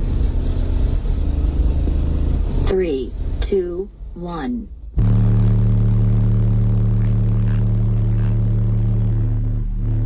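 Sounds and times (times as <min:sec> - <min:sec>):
subwoofer test tone drone: 0:00.0 - 0:10.0.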